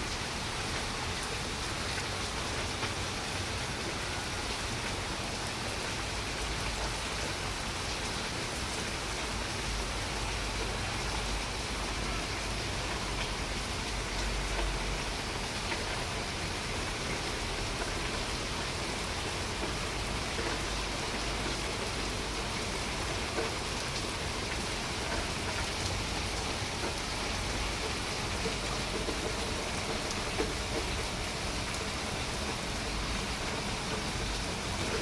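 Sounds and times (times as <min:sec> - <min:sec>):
rain patter: 0:00.0 - 0:35.0.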